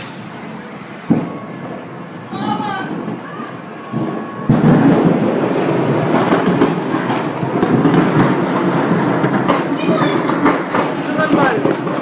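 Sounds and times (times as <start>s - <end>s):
explosion blast: 0.0s - 1.9s, 3.9s - 12.0s
loud rumble with crackles: 0.0s - 12.0s.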